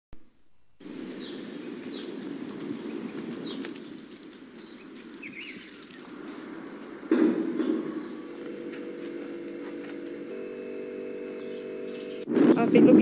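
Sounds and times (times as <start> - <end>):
birds chirping: 0.8 - 13.0.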